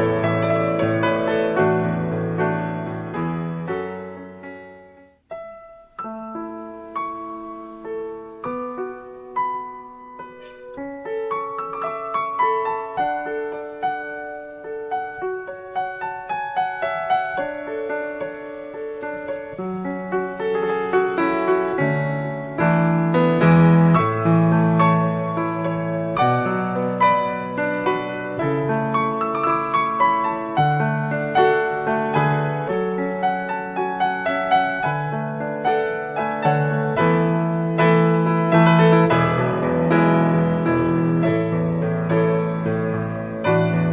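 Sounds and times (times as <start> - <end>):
gentle piano melody: 0.0 - 43.9.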